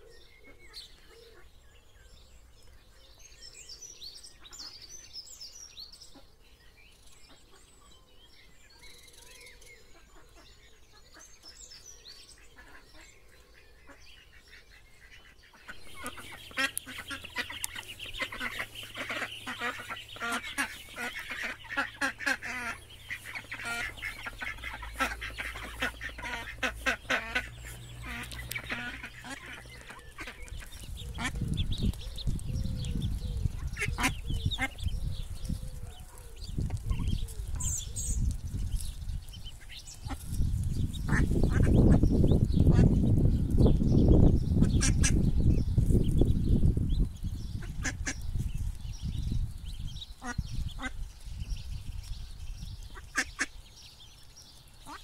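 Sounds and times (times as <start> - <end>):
ducklings peeping: 0.0 - 55.0.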